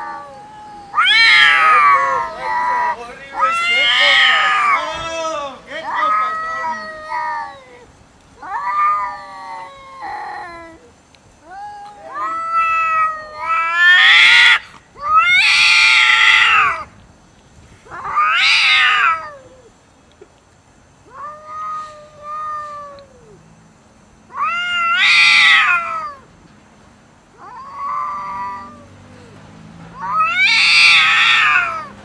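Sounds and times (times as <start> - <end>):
cats yowling: 0.0 - 5.2, 5.8 - 16.9, 17.8 - 19.7, 21.0 - 23.4, 24.3 - 26.3, 27.3 - 32.0.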